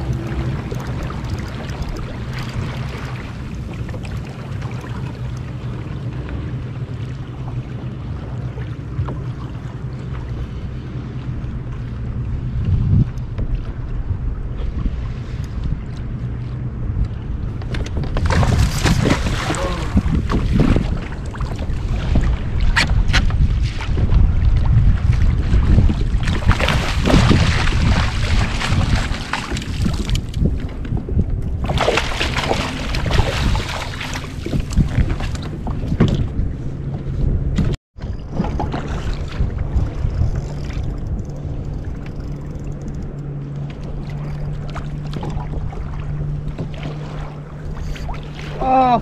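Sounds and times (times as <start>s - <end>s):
water splashing against kayak: 0.0s - 49.0s
wind buffeting microphone: 0.0s - 49.0s.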